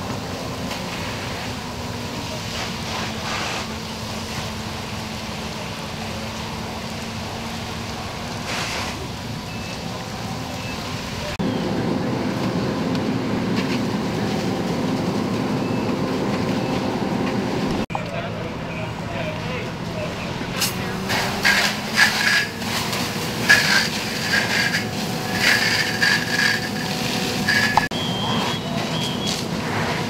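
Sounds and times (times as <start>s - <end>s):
fire burning: 0.0s - 30.0s
fire engine pump drone: 0.0s - 30.0s
hose water spraying: 0.1s - 17.9s, 19.2s - 30.0s.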